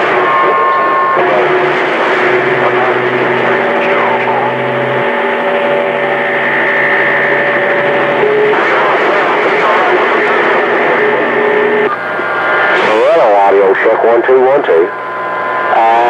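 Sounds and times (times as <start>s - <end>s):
radio static hiss: 0.0s - 7.1s, 7.8s - 15.0s, 15.7s - 16.0s
radio whistling tones: 0.0s - 16.0s.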